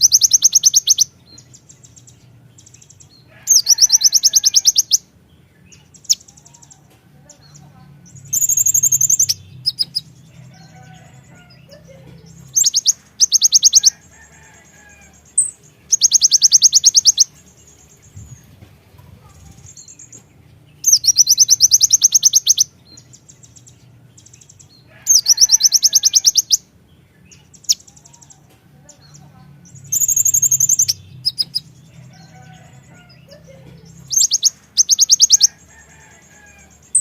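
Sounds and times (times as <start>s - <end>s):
soft bird chirps: 0.0s - 37.0s.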